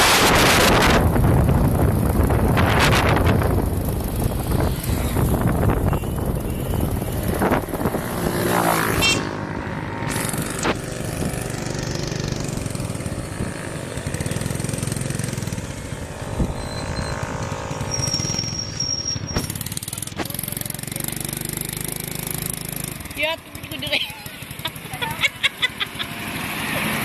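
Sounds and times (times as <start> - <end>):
vehicle engine driving: 0.0 - 27.0.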